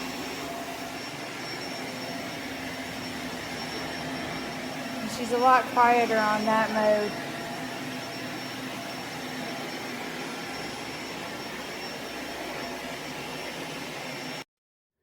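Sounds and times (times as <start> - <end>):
vacuum cleaner running: 0.0 - 14.5.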